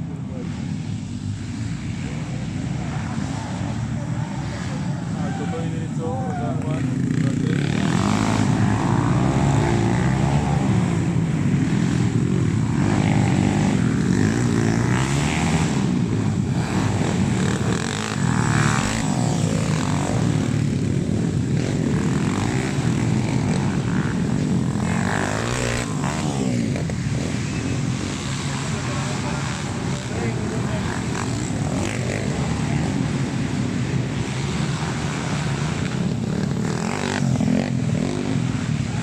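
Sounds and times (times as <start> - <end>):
motorbike engines revving: 0.0 - 39.0.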